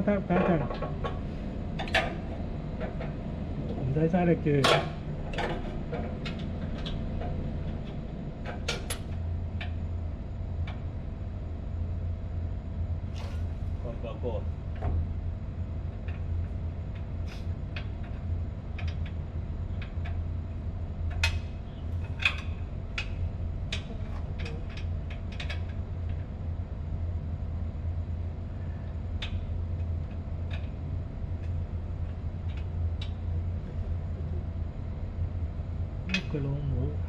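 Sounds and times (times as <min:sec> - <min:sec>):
low machinery hum: 0:00.0 - 0:37.0.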